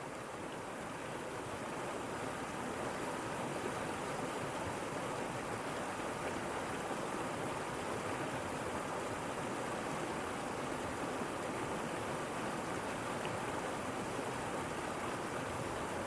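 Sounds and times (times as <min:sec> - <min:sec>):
waterfall and creek rushing: 0:00.0 - 0:16.0.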